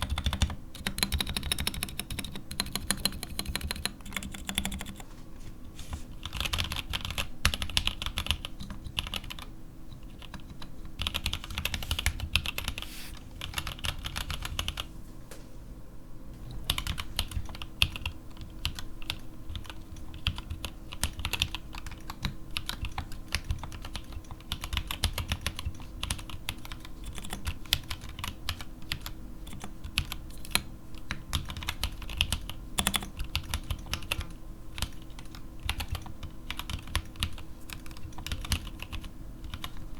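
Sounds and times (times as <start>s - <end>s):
mechanical keyboard typing: 0.0s - 5.1s, 6.2s - 12.8s, 13.4s - 14.9s, 16.5s - 39.9s.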